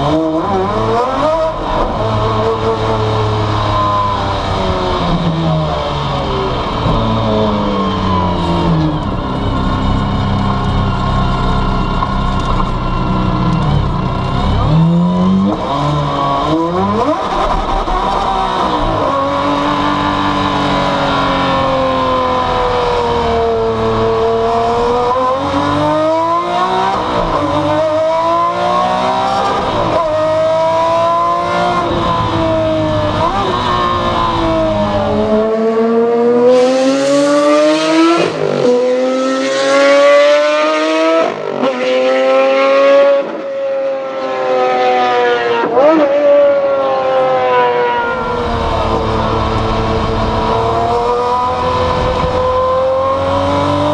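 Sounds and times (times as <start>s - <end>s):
racing engine revving through gears: 0.0s - 53.9s.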